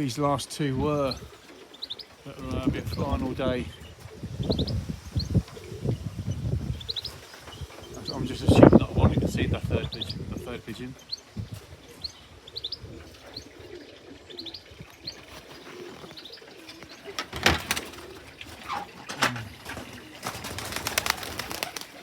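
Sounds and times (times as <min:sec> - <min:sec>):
pigeons cooing: 0:00.0 - 0:22.0
small birds chirping: 0:00.0 - 0:22.0.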